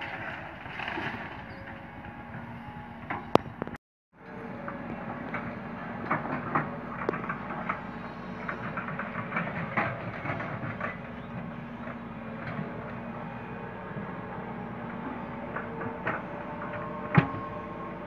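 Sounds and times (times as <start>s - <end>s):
excavator diesel engine: 0.0s - 18.0s.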